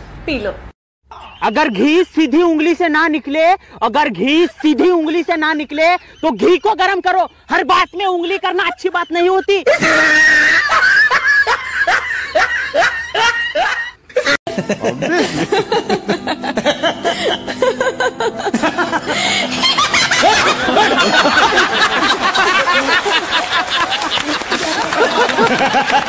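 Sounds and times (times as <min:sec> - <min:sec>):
man and woman laughing: 0:04.0 - 0:26.0
rhythmic bursts of laughter: 0:04.0 - 0:26.0.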